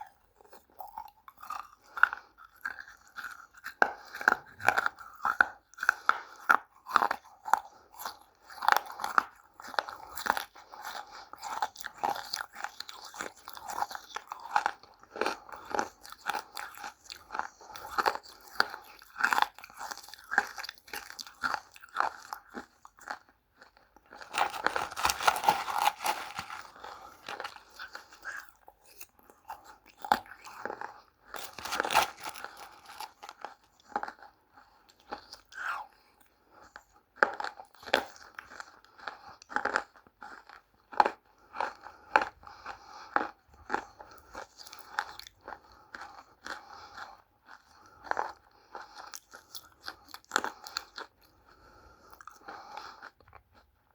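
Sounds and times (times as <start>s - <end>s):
chewing crunchy clay: 0.0s - 53.9s.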